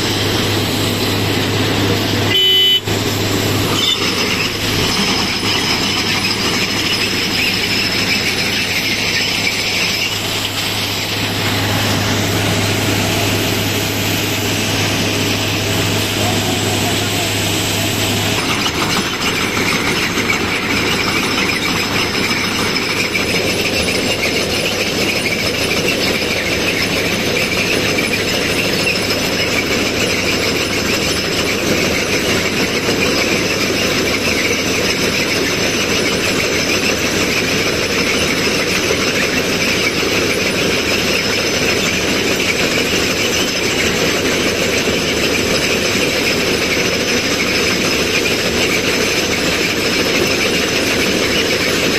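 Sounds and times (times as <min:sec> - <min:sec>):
machine engines running: 0:00.0 - 0:51.9
mechanical squealing: 0:00.2 - 0:51.9.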